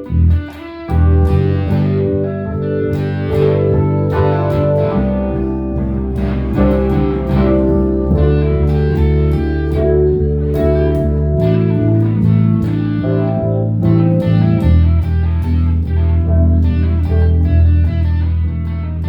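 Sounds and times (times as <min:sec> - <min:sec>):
held bass notes: 0:00.0 - 0:19.0
plucked guitar notes: 0:00.0 - 0:19.0.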